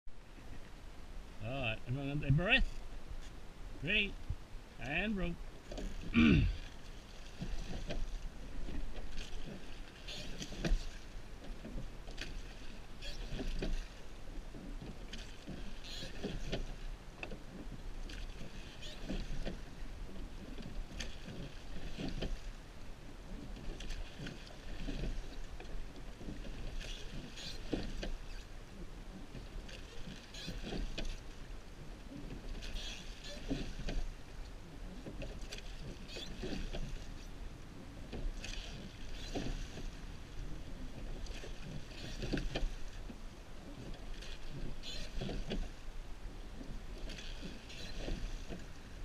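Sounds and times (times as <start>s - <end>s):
oars splashing through water: 5.2s - 49.0s.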